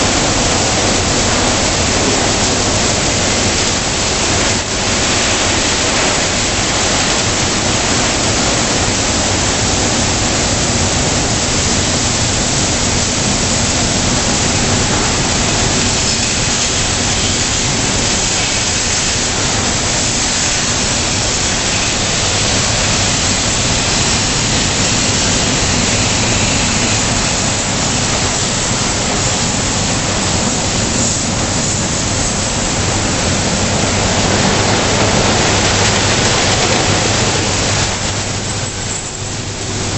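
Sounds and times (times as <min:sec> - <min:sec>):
rotating brushes scrubbing: 0:00.0 - 0:39.9
water jets spraying: 0:00.0 - 0:39.9.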